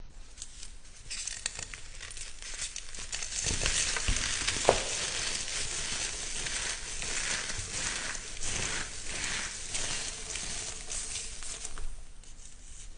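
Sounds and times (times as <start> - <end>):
crisp food being crushed: 1.2 - 11.9.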